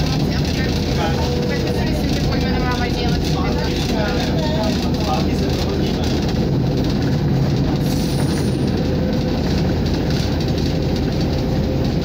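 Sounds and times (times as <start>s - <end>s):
railcar engine and wheels rumbling: 0.0s - 12.0s.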